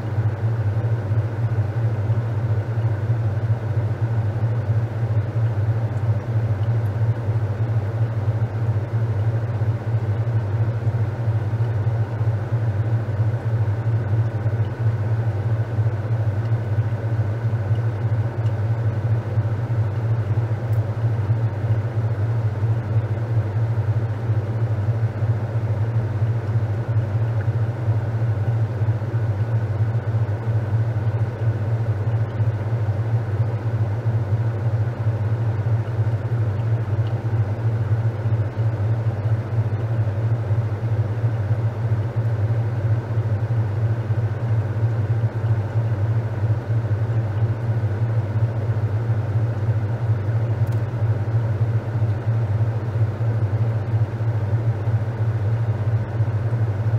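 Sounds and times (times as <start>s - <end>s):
washing machine humming: 0.0s - 56.9s.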